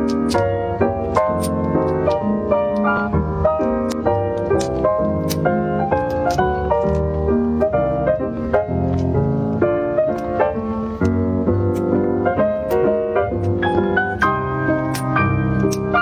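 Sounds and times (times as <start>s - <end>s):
quick piano tune: 0.0s - 16.0s.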